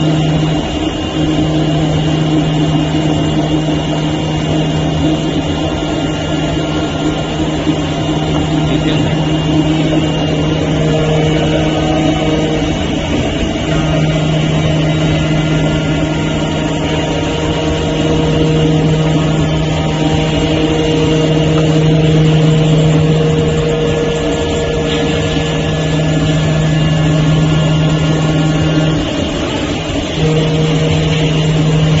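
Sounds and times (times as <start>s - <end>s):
cutting machine humming: 0.0s - 32.0s.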